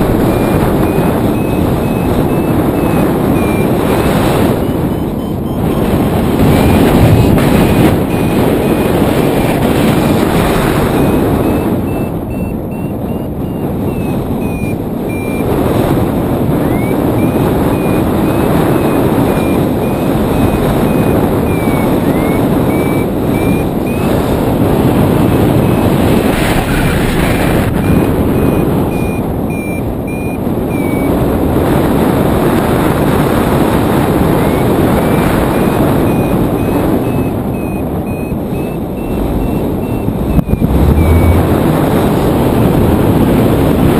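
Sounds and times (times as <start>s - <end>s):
variometer beeping: 0.0s - 31.3s, 32.9s - 43.9s
wind rushing over microphone: 0.0s - 43.9s.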